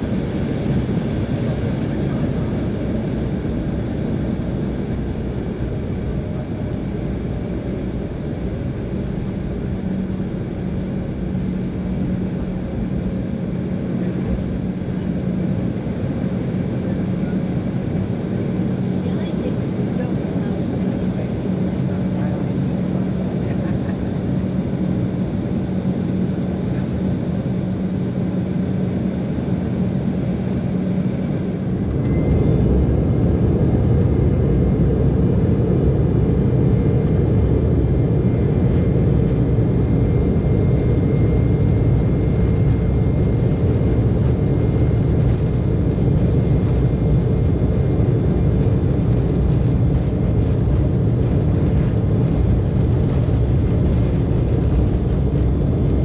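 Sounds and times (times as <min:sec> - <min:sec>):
jet engines from inside cabin: 0:00.0 - 0:56.0.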